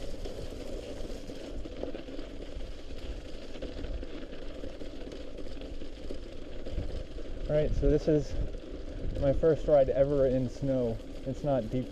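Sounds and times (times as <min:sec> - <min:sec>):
bike tyres crackling through gravel: 0:00.0 - 0:11.9
wind rumble on microphone: 0:00.0 - 0:11.9.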